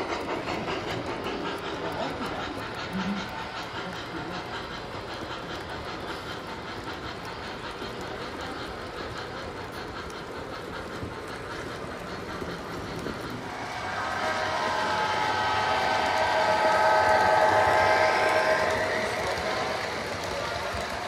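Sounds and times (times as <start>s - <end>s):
model train cars clattering: 0.0s - 21.0s.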